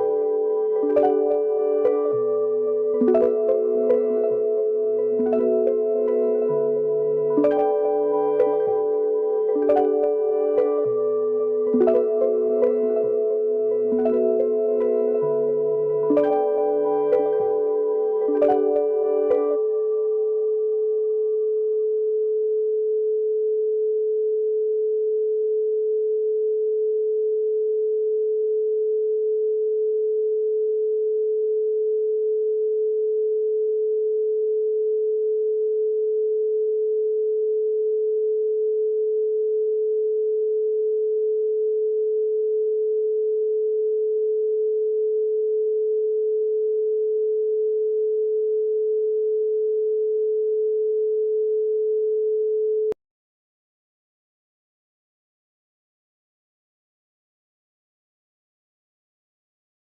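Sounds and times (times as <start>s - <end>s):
steady sine tone: 0.0s - 53.0s.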